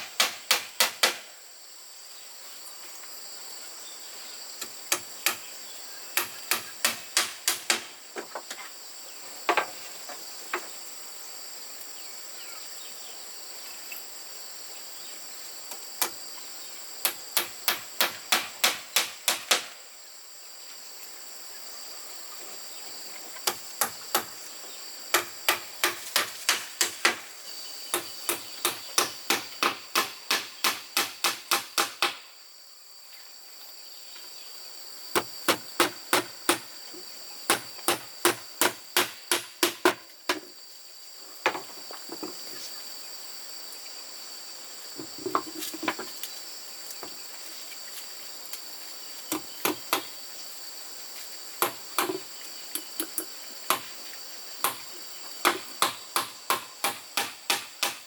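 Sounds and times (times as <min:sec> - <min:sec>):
high buzz of insects: 0:00.0 - 0:58.0.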